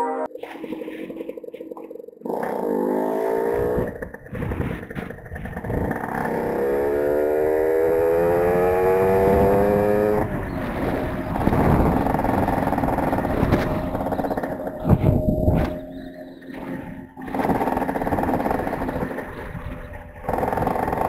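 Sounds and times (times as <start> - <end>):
dirt bike engine revving: 2.2 - 21.0.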